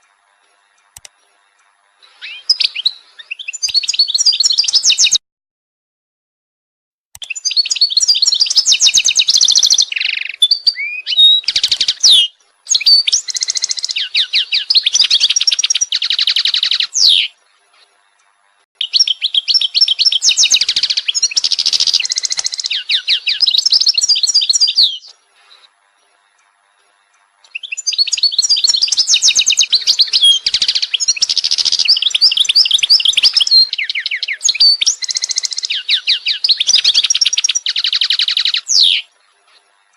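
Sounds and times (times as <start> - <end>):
songbird trilling and chirping: 0.0 - 5.2, 7.2 - 17.4, 18.8 - 39.9.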